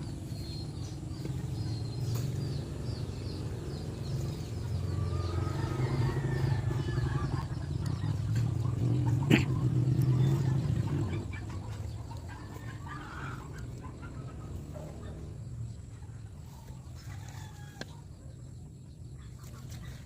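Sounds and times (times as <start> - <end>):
engine running: 0.0 - 17.0
small birds chirping: 0.0 - 20.0.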